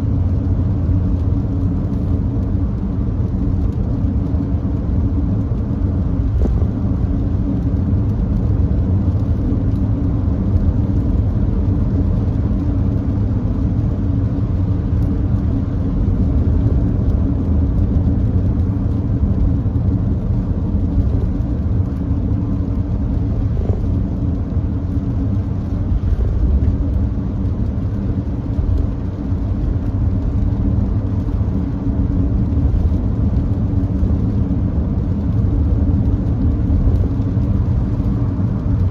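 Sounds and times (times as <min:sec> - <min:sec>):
car tyre noise on wet road: 0:00.0 - 0:38.9.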